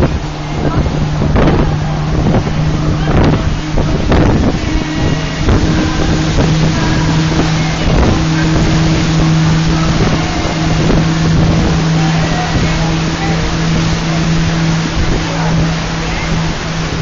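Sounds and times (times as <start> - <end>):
boat engine humming: 0.0 - 17.0
water noise: 0.0 - 17.0
wind rushing: 0.0 - 17.0.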